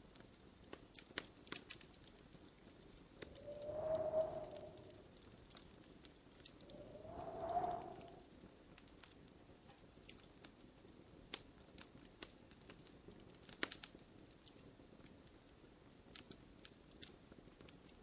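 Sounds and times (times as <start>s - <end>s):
wood fire crackling: 0.0s - 9.3s, 10.0s - 18.0s.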